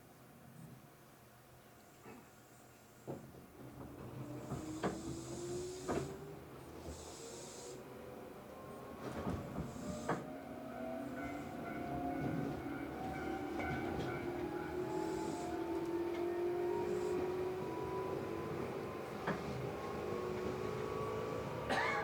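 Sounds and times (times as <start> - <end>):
train traction motor whine: 3.8 - 22.0.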